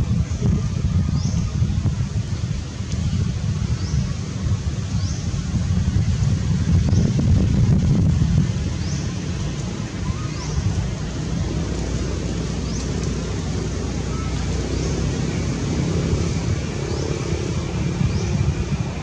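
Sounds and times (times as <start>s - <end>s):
low rumble: 0.0s - 19.0s
outdoor background hiss: 0.0s - 19.0s
wind buffeting microphone: 0.0s - 19.0s.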